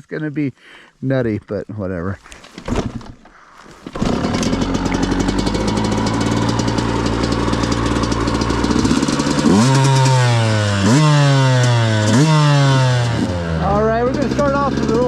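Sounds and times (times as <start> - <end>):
dirt bike engine idling and revving: 2.5 - 15.0.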